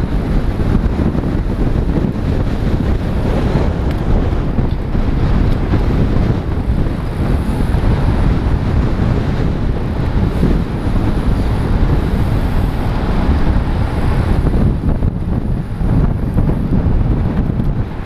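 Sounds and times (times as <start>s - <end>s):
wind buffeting a camera: 0.0s - 18.0s.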